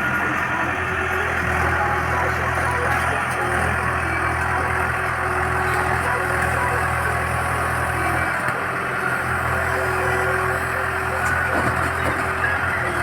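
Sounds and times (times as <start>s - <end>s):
construction machine engine running: 0.0s - 13.0s.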